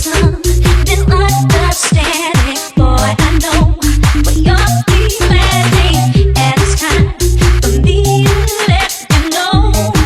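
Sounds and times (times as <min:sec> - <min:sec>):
dance music with kick drum and bass: 0:00.0 - 0:10.0.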